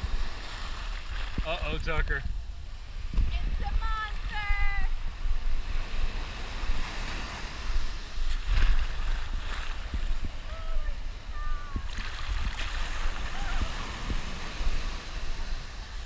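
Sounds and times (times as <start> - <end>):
wind buffeting microphone: 0.0 - 16.0
ocean surf breaking: 2.8 - 16.0.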